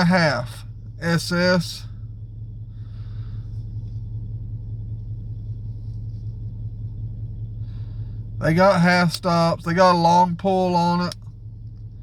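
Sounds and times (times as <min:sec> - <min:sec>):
low rumbling hum: 0:00.0 - 0:12.0.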